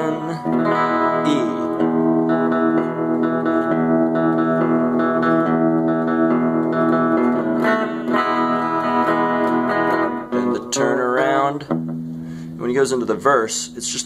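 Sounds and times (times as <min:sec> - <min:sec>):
electric guitar strumming chords: 0:00.0 - 0:14.0.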